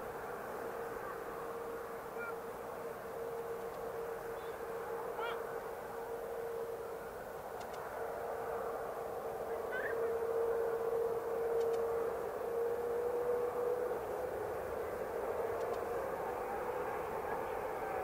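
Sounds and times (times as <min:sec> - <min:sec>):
jet engines humming and whining: 0:00.0 - 0:18.0.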